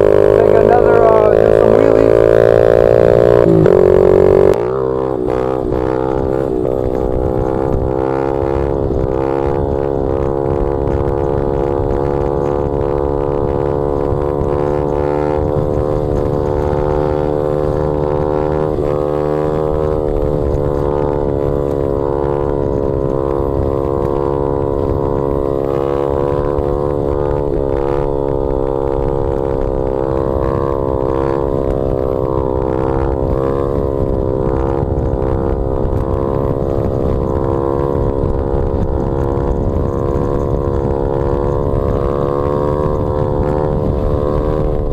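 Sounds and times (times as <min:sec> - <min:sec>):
motorbike engine running: 0:00.0 - 0:44.9.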